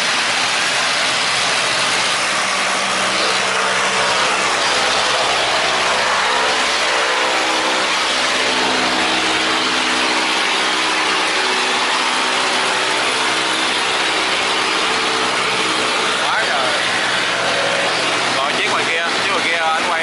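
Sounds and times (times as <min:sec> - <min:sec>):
boat engines droning: 0:00.0 - 0:20.0
loud rushing noise: 0:00.0 - 0:20.0.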